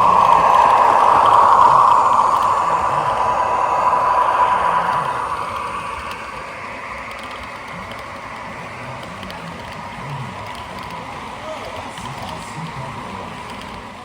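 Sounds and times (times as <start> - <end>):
model train motor whirring: 0.0 - 14.0.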